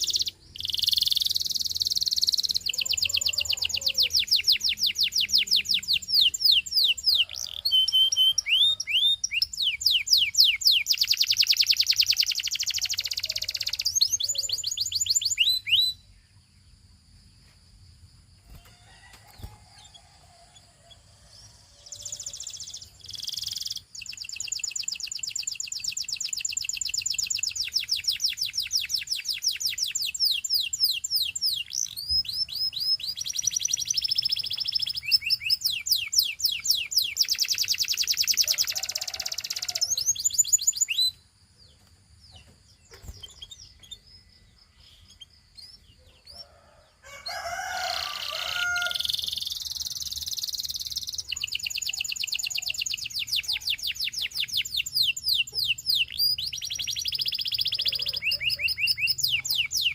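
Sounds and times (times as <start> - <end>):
canary singing trills: 0.0 - 16.7, 18.4 - 59.9.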